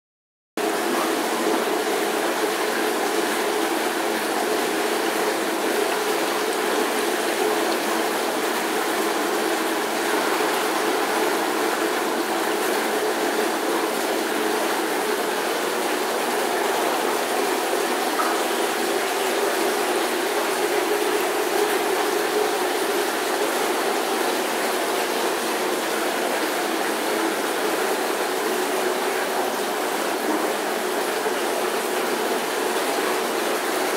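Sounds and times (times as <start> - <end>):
pump hum: 0.6 - 33.9
rushing water: 0.6 - 33.9.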